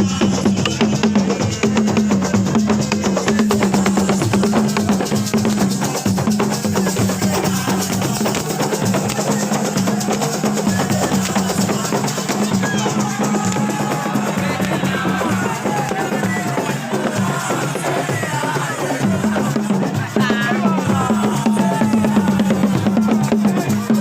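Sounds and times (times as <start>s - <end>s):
rapid drum percussion: 0.0s - 24.0s.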